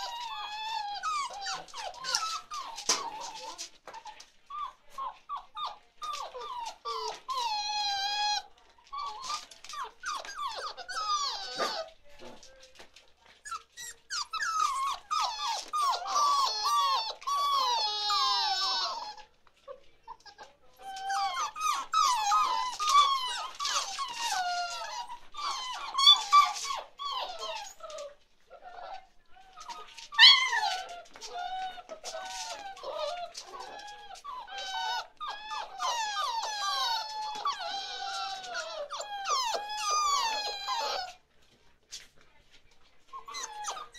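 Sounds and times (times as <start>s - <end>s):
puppies whining and squealing: 0.0s - 12.0s, 13.4s - 41.3s, 43.0s - 43.9s
puppy yelp: 0.0s - 12.0s, 13.4s - 19.3s, 20.1s - 41.2s, 43.2s - 43.9s.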